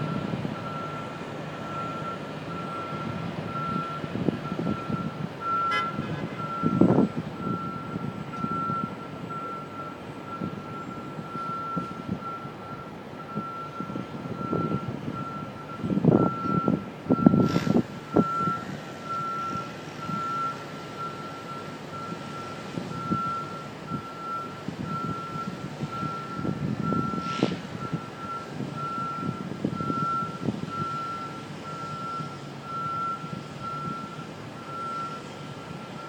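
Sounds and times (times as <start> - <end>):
low city rumble: 0.0 - 36.0.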